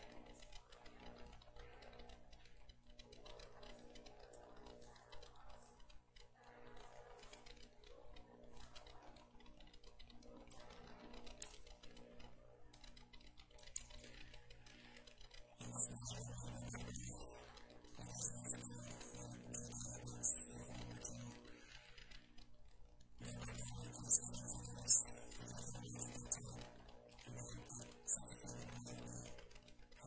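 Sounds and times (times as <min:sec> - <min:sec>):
small clicks: 0:00.0 - 0:30.0
steady low hum: 0:00.0 - 0:30.0.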